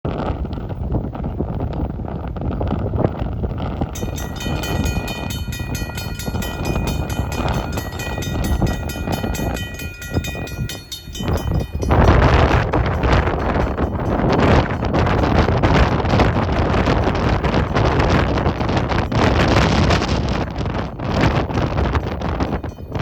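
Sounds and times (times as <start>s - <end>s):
wind gust on microphone: 0.0s - 23.0s
freight train rumbling past: 3.1s - 23.0s.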